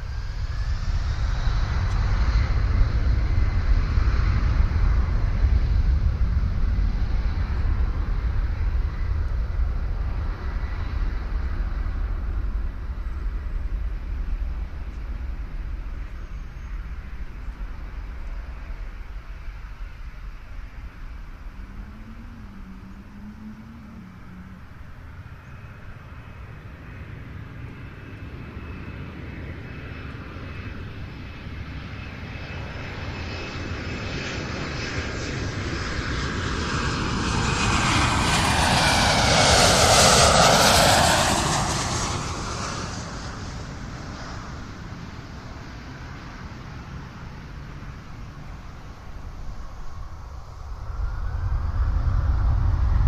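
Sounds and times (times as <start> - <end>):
airliner flying over: 0.0 - 53.0.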